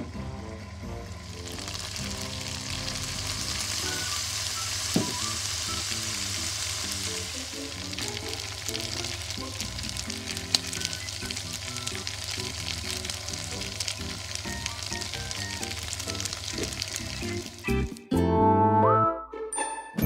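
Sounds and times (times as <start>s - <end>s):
soft background music: 0.0s - 20.0s
food sizzling in oil: 1.1s - 18.0s.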